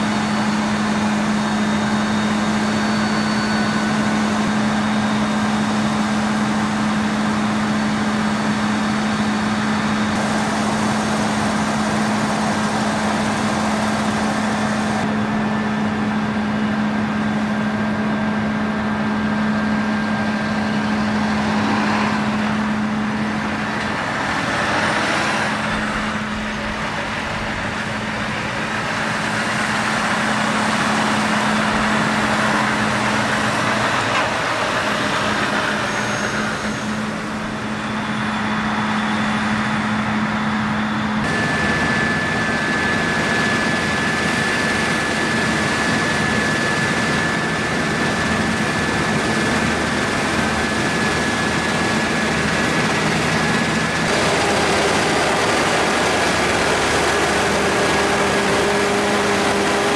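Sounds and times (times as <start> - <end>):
combine harvester high whine: 0.0 - 59.9
diesel engines running: 0.0 - 59.9.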